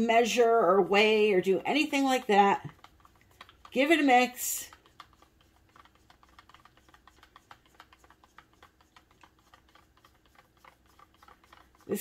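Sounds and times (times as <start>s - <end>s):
stir stick tapping plastic cup: 1.0s - 12.0s.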